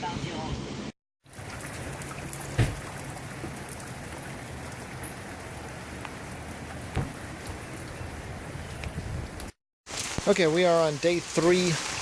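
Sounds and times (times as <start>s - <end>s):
steady rain falling: 1.3s - 12.0s.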